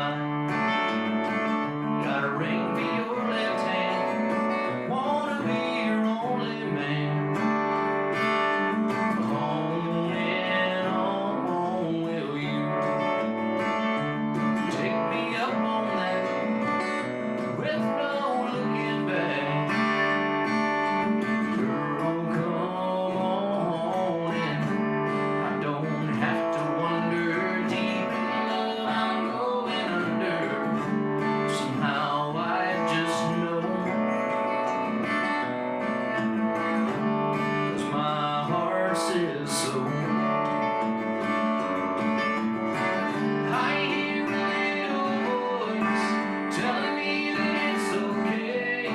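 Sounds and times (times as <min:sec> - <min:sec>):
acoustic country music: 0:00.0 - 0:48.9
strummed acoustic guitar: 0:00.0 - 0:48.9.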